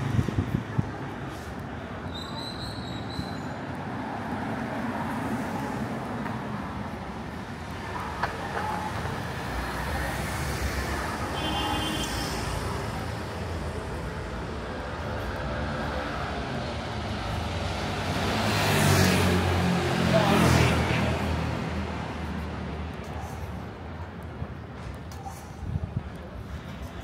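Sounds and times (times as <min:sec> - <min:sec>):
cars and scooters passing: 0:00.0 - 0:27.0.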